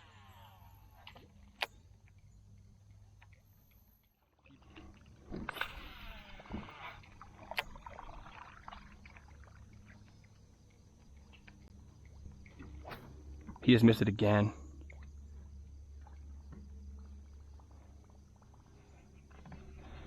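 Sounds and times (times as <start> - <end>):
low steady hum: 0.0 - 20.0
water splashing around a boat: 3.2 - 20.0.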